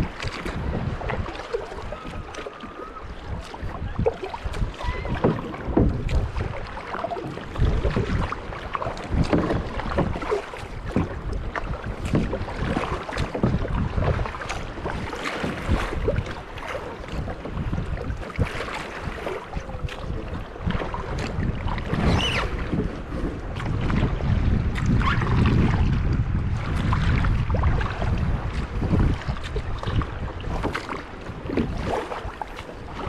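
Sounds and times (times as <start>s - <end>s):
paddle strokes splashing: 0.0s - 33.0s
waves slapping against a hull: 0.0s - 33.0s
wind buffeting the microphone: 0.0s - 33.0s.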